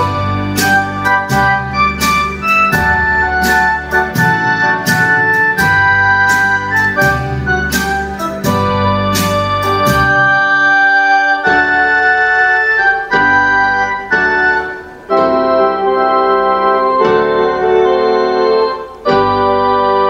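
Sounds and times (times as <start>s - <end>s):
electronic keyboard hymn chords: 0.0s - 20.0s.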